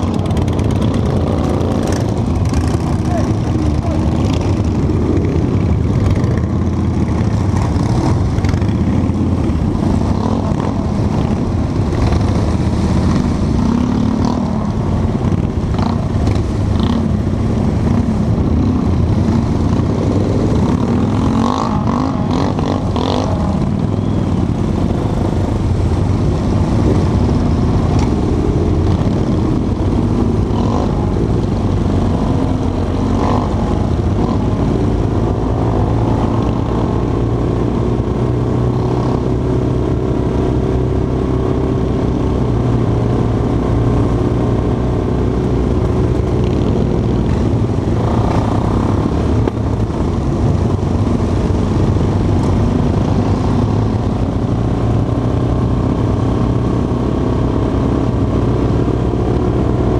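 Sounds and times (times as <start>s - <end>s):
motorcycle engines running: 0.0s - 59.9s.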